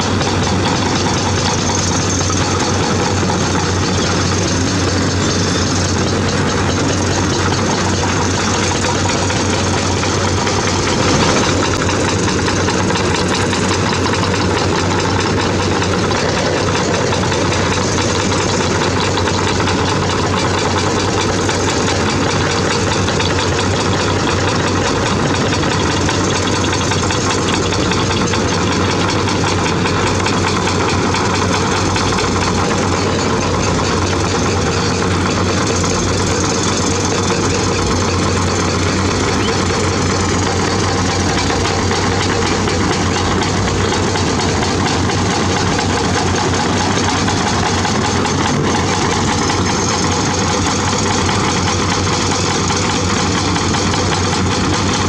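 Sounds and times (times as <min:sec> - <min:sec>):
excavator diesel engines running: 0:00.0 - 0:55.0.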